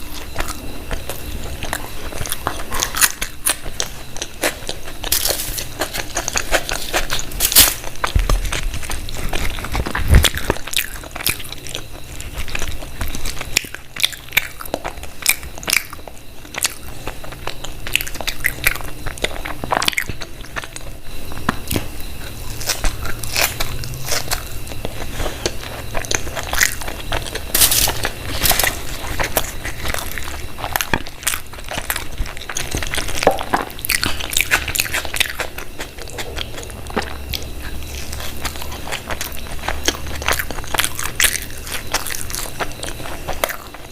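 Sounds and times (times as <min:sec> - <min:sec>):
person chewing with crunches: 0:00.0 - 0:43.9.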